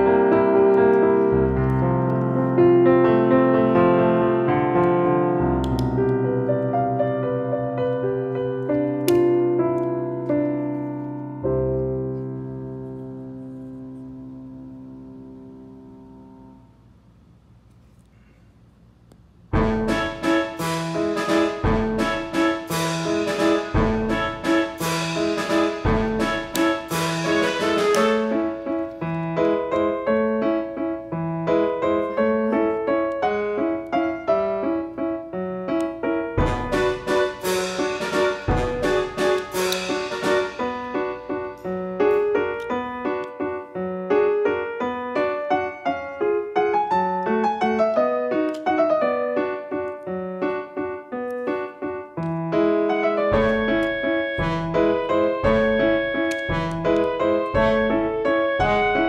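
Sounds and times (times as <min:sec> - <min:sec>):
piano music: 0:00.0 - 0:16.9, 0:19.5 - 0:59.0.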